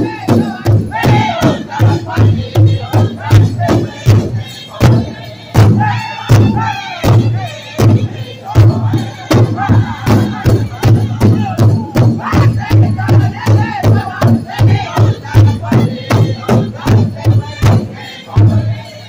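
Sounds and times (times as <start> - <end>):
large hide drum beating: 0.0 - 18.8
group singing in high voices: 0.0 - 19.0.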